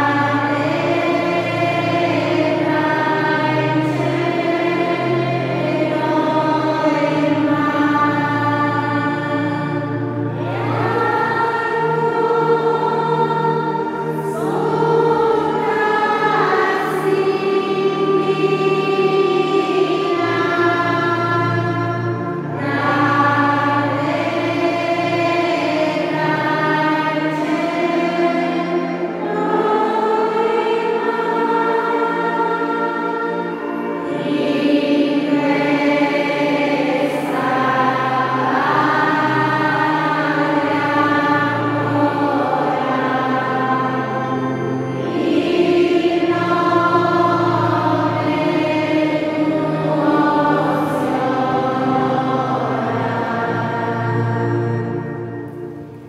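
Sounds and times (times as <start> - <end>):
choir singing sacred music: 0.0 - 56.0.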